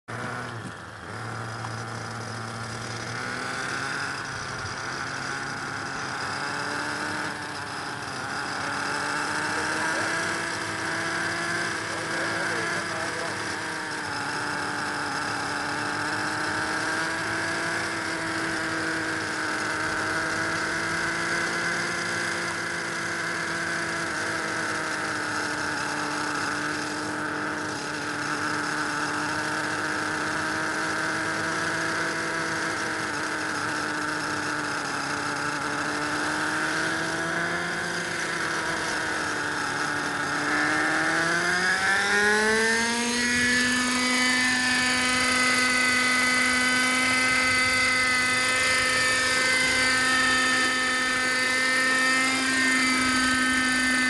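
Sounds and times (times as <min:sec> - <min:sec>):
model helicopter motor whine: 0:00.1 - 0:54.0.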